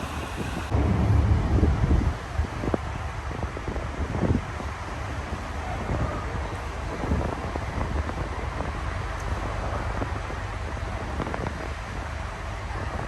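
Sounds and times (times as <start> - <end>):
ship low rumble: 0.0 - 13.0
wind buffeting microphone: 0.0 - 13.0.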